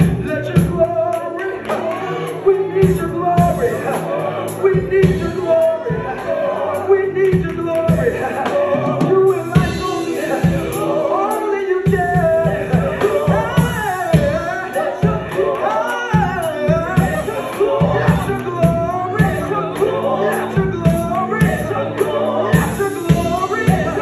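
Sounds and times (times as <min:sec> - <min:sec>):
band playing steady low beat: 0:00.0 - 0:24.0.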